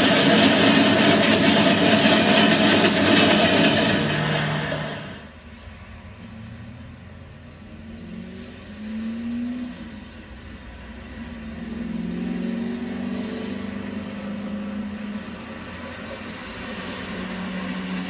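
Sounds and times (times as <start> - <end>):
diesel locomotive engine revving: 0.0 - 18.0.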